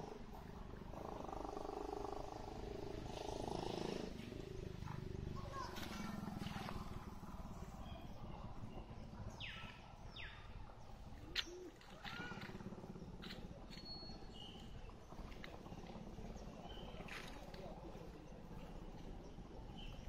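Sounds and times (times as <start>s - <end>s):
birds calling: 0.0s - 20.0s
low steady rumble: 0.0s - 20.0s.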